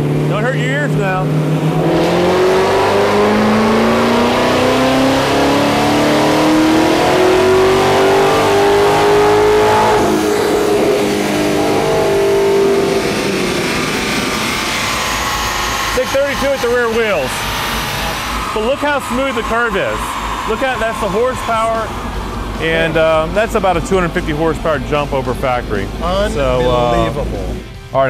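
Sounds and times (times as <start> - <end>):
car engine revving on a dyno: 0.0 - 27.8.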